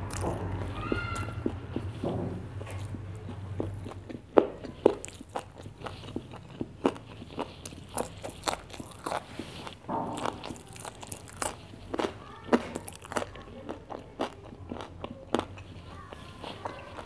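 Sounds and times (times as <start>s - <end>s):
chewing and biting food: 0.0s - 17.0s.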